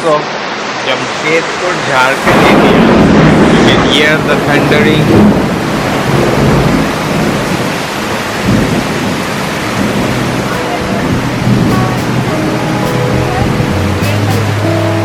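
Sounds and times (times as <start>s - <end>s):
heavy rain pouring: 0.0s - 15.0s
thunder rumbling: 1.7s - 15.0s.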